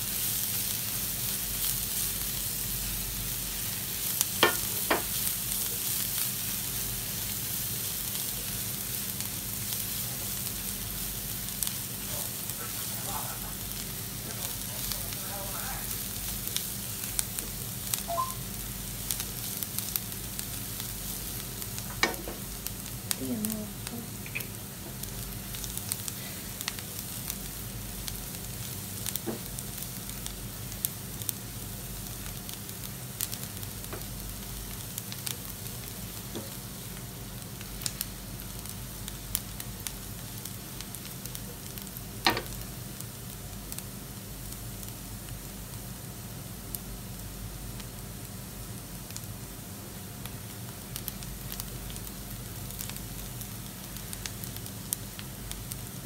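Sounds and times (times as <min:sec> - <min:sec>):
onions sizzling in a frying pan: 0:00.0 - 0:56.0.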